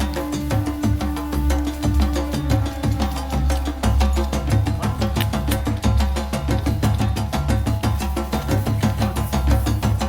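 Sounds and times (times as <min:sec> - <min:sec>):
music with fast percussive beat: 0:00.0 - 0:10.0.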